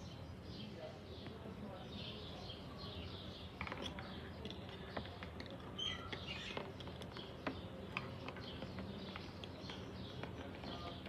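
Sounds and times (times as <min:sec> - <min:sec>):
soft bird chirp: 0:00.0 - 0:11.0.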